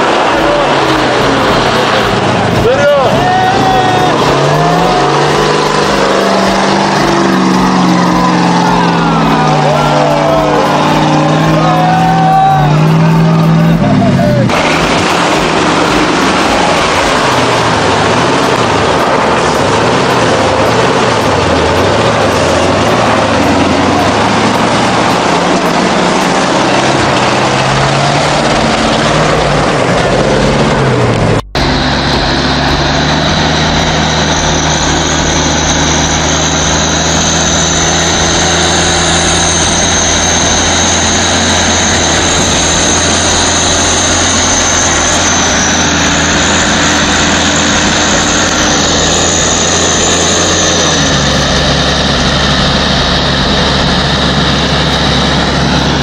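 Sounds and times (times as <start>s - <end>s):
diesel engine under load: 0.0s - 56.0s
high whine: 0.0s - 56.0s
truck engine revving: 0.0s - 56.0s.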